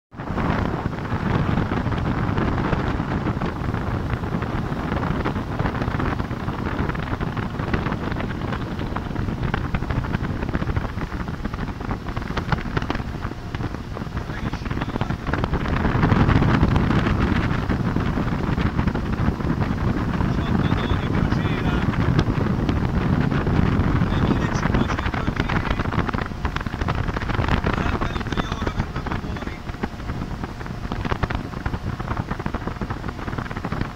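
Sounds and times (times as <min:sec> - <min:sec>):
boat and water rushing: 0:00.1 - 0:33.9
wind buffeting microphone: 0:00.1 - 0:33.9.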